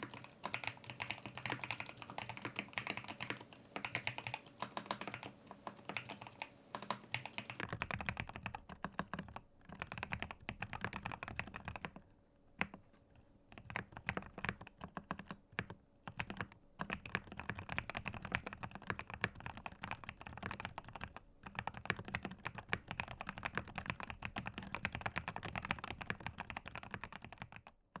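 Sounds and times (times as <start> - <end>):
fast typing on mechanical keyboard: 0.0 - 12.8, 13.5 - 27.8.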